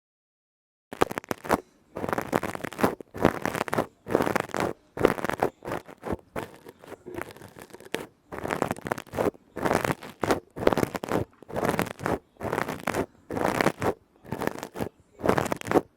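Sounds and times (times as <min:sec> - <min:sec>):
tapping and scratching on objects: 0:01.0 - 0:15.9.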